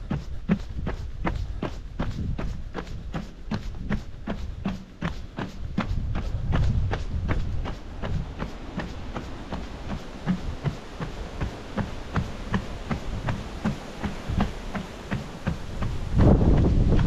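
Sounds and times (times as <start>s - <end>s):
running footsteps on boardwalk: 0.0s - 17.0s.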